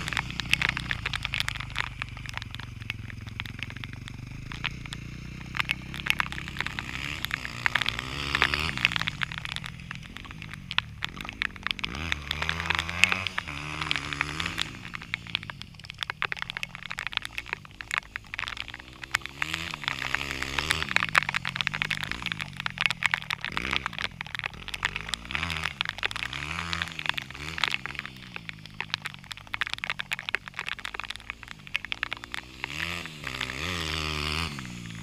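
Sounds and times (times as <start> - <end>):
dirt bike engines revving: 0.0 - 35.0
sharp crackles and ticks: 0.0 - 35.0.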